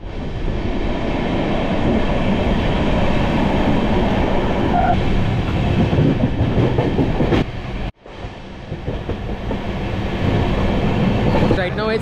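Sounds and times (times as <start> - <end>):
train coach rumbling and rattling: 0.1 - 12.0.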